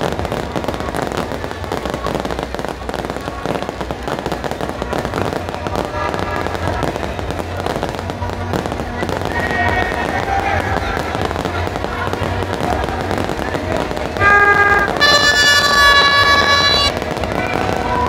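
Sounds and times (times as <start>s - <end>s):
steady low rumble: 0.0s - 15.0s
fireworks crackling: 0.0s - 18.0s.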